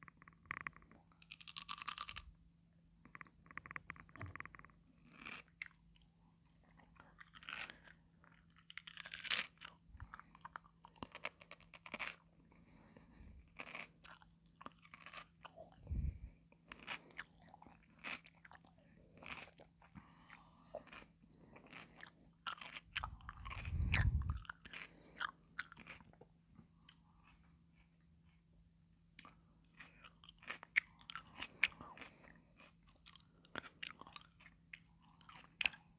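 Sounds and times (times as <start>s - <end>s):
cucumber crunching while chewed: 0.2s - 2.4s, 3.1s - 28.4s, 29.1s - 35.9s.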